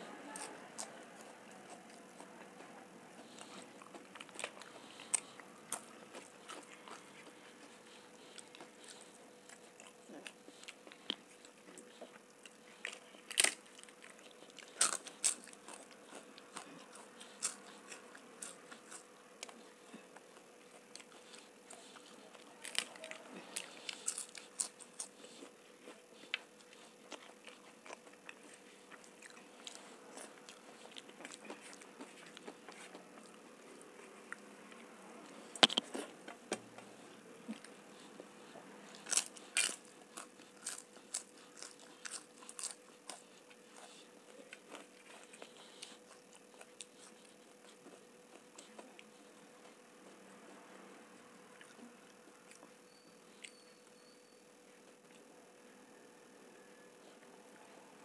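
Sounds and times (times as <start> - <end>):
crisp papad crunching: 0.1 - 34.4, 35.3 - 49.8
chewing and mouth sounds: 0.3 - 53.6.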